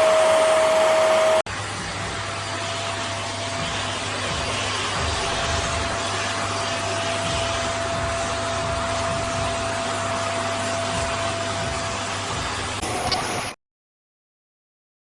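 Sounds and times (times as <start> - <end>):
vacuum cleaner running: 0.0 - 13.6.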